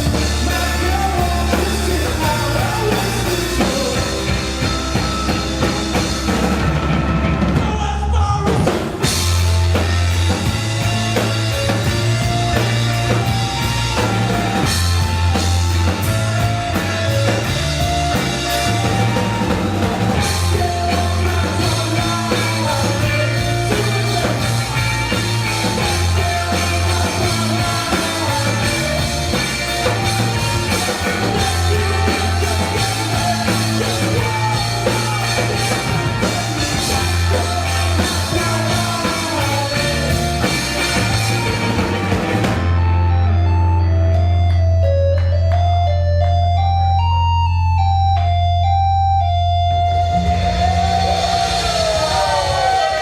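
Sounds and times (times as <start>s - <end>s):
drum kit: 0.0s - 44.3s, 49.7s - 53.0s
electric guitars: 0.0s - 46.7s, 48.2s - 53.0s
pulsing bass line: 0.0s - 53.0s.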